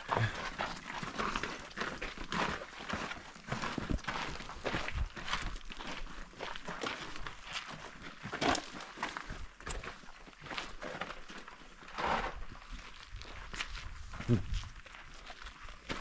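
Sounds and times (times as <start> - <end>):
footsteps crunching on sandstone: 0.0 - 16.0.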